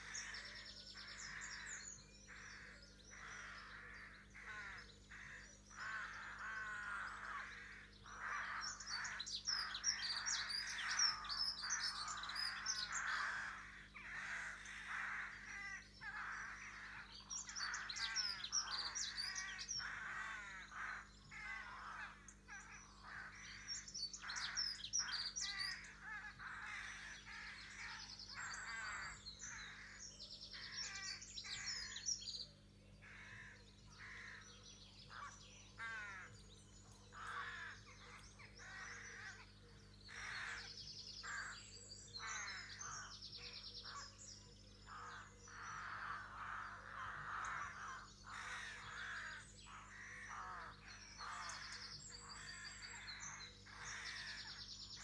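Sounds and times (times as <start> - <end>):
bird chorus chirping and singing: 0.0 - 55.0.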